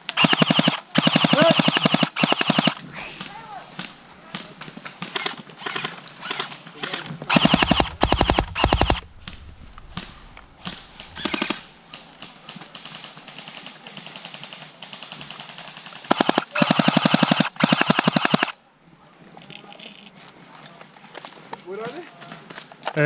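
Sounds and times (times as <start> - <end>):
airsoft guns firing bursts: 0.0 - 18.6.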